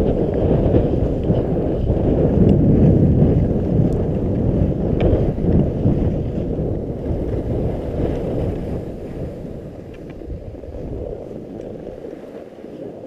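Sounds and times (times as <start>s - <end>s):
skis scraping on packed snow: 0.0s - 13.0s
wind rushing over microphone: 0.0s - 13.0s.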